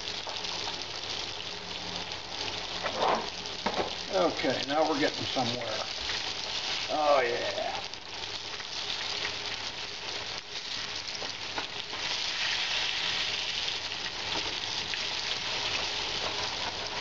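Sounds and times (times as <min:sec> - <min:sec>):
cutlets sizzling in oil: 0:00.0 - 0:17.0.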